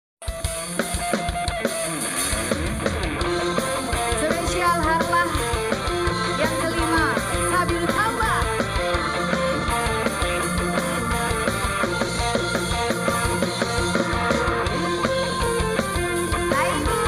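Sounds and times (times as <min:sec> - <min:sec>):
drum kit beat: 0:00.2 - 0:17.0
electric guitar: 0:00.2 - 0:17.0
live band music: 0:00.2 - 0:17.0.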